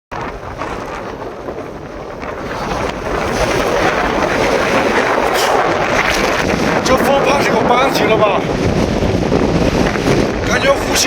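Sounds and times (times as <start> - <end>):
strong wind on microphone: 0.1 - 11.0.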